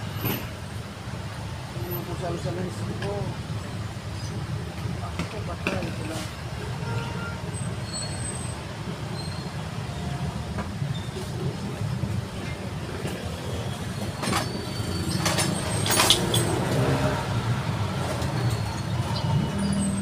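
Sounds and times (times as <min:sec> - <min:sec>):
low rumble of motor traffic: 0:00.0 - 0:20.0.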